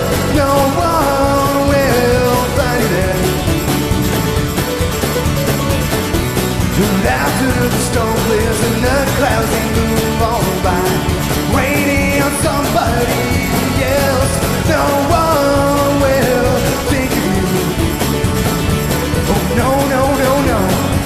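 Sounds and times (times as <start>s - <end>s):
live rock and roll band playing: 0.0s - 21.0s.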